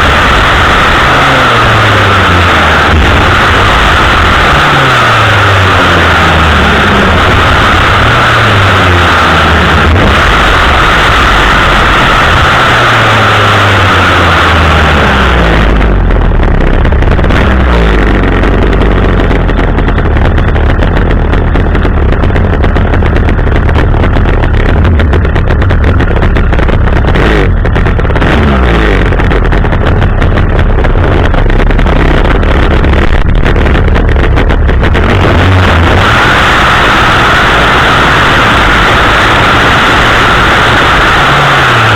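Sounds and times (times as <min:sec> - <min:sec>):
chainsaw engine at high revs: 0:00.0 - 0:20.9, 0:21.5 - 0:41.9.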